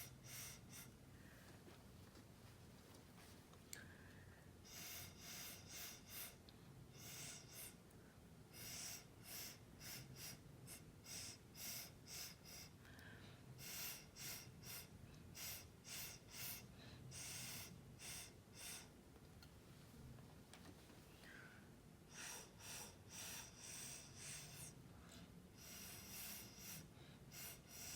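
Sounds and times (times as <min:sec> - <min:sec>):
short puffs of breath: 0:00.0 - 0:01.6, 0:03.8 - 0:07.9, 0:08.5 - 0:19.0, 0:21.2 - 0:27.9.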